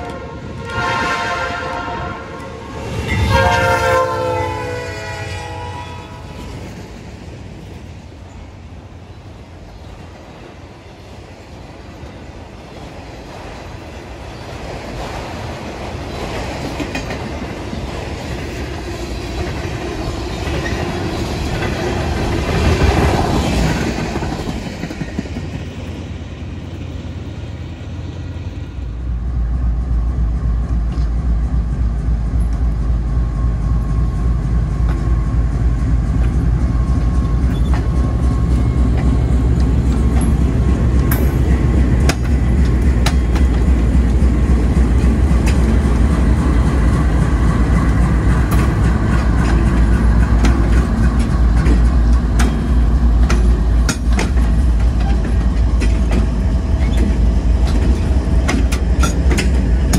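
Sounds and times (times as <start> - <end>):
diesel locomotive engine rumble: 0.0 - 59.9
freight cars rolling on rails: 0.0 - 59.9.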